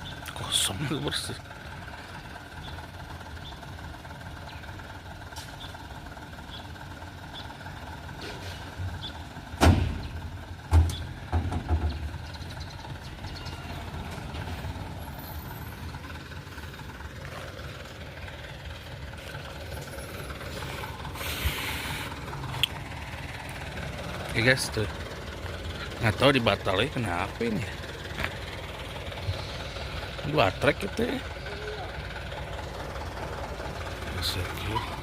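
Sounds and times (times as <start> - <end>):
dump truck engine running: 0.0 - 35.0.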